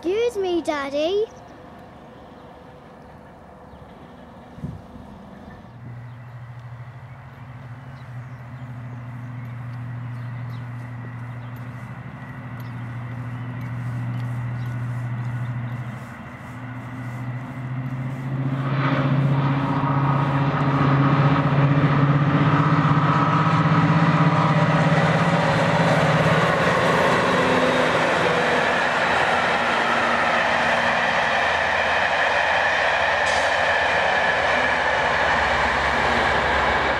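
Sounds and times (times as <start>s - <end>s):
diesel locomotive engine drone: 0.0s - 36.9s
train wheels rushing on rails: 0.0s - 36.9s.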